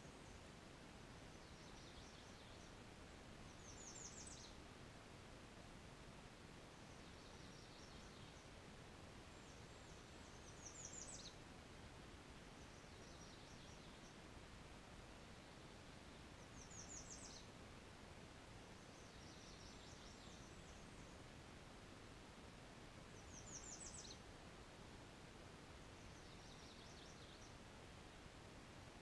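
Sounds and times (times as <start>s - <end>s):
songbird singing faintly: 0.0s - 29.0s.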